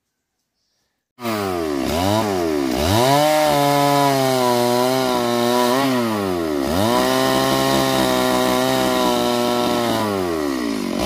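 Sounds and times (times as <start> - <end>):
chainsaw engine at high revs: 1.2 - 11.0.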